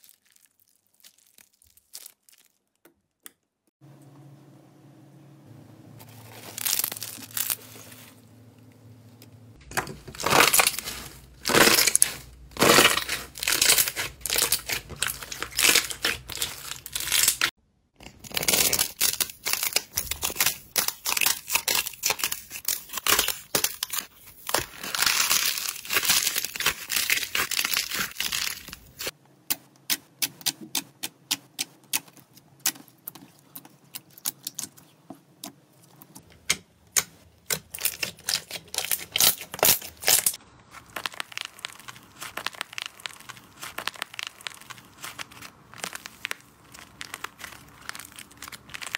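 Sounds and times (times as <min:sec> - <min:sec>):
slime crackling and squishing: 0:00.0 - 0:02.8, 0:06.0 - 0:08.1, 0:09.6 - 0:29.2, 0:29.8 - 0:36.3, 0:37.4 - 0:48.9.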